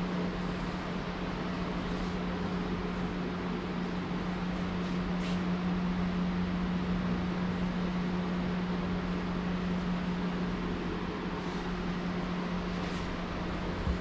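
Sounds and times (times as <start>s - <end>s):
ventilation machine hum and hiss: 0.0s - 14.0s.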